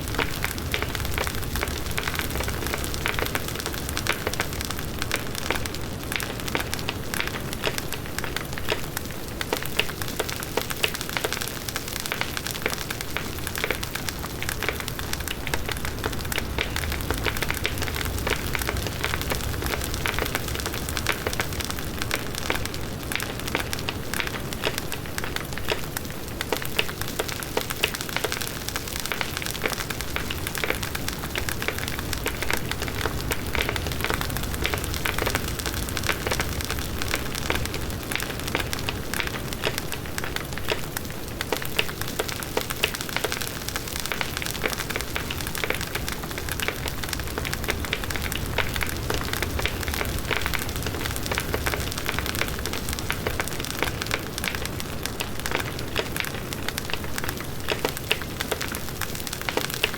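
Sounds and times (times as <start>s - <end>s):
bonfire crackling and popping: 0.0s - 59.9s
low rumble of flames: 0.0s - 59.9s.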